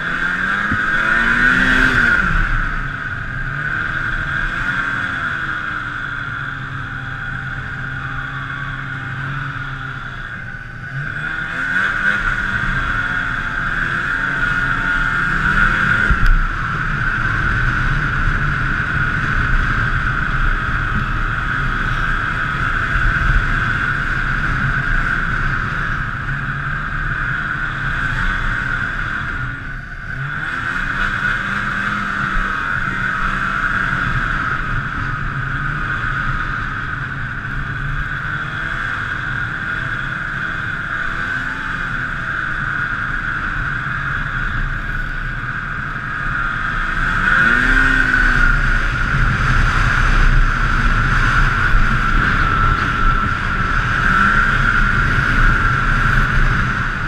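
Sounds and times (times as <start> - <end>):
snowmobile engine drone: 0.0 - 57.0.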